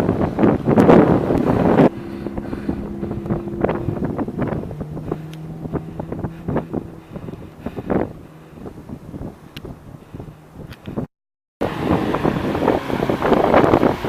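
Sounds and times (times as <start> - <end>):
wind buffeting microphone: 0.0 - 14.0
car engine running: 0.8 - 14.0.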